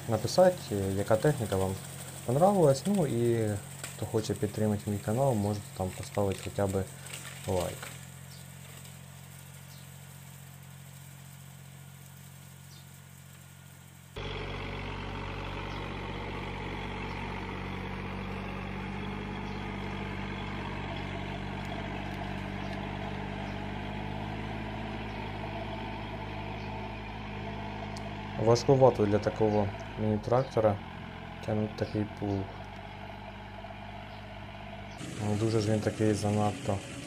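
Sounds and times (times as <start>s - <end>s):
diesel tractor engine pulling plough: 0.0s - 37.0s
small tractor engine running: 0.0s - 37.0s.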